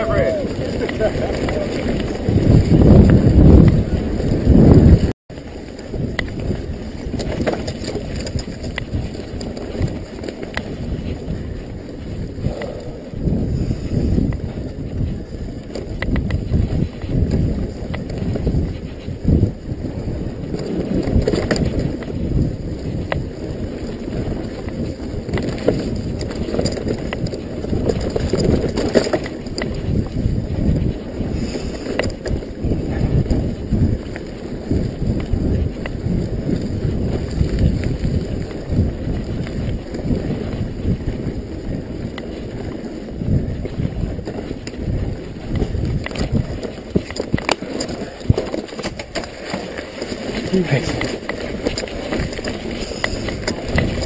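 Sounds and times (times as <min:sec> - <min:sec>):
bike clicks and rattles: 0:00.0 - 0:54.0
wind buffeting microphone: 0:00.0 - 0:54.0.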